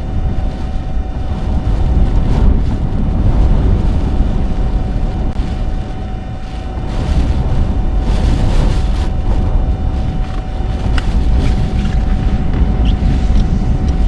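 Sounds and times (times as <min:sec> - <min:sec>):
strong winds gusting against car: 0:00.0 - 0:14.0.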